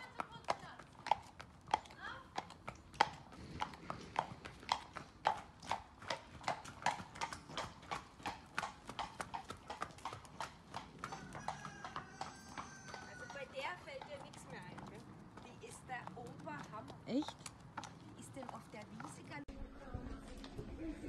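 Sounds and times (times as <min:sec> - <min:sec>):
hooves clip-clopping on asphalt: 0:00.0 - 0:20.7.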